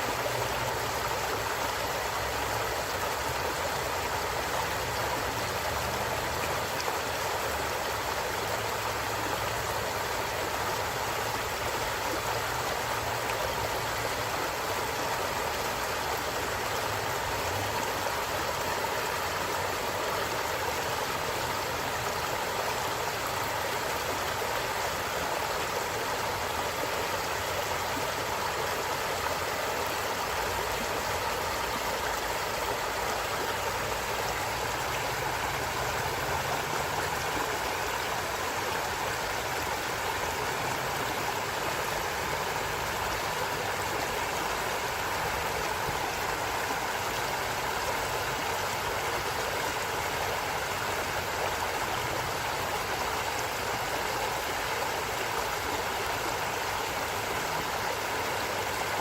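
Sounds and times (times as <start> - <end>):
stream water gurgling over rocks: 0.0 - 59.0.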